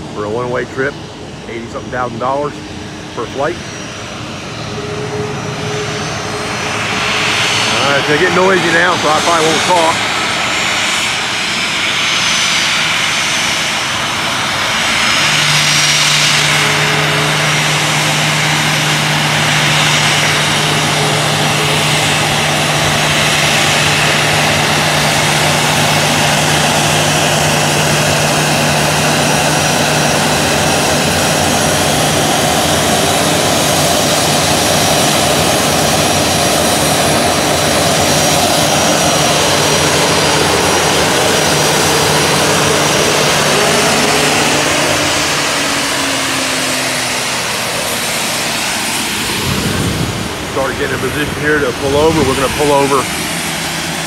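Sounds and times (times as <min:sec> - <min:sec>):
jet engines rushing: 0:00.0 - 0:54.0
steady low hum: 0:00.0 - 0:54.0.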